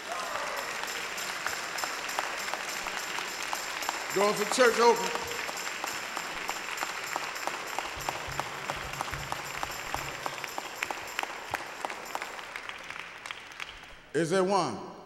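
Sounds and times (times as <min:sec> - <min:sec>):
congregation clapping: 0:00.0 - 0:14.1.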